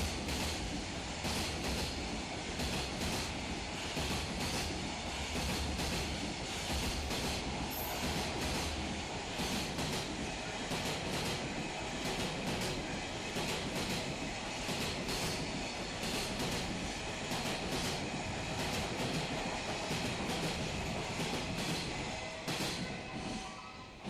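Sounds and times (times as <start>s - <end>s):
freight train rumble: 0.0s - 24.0s.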